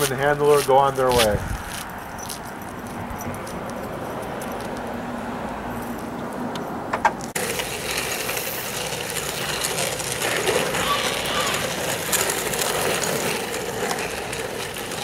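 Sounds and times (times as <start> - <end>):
wheels rolling on asphalt: 0.0 - 15.0.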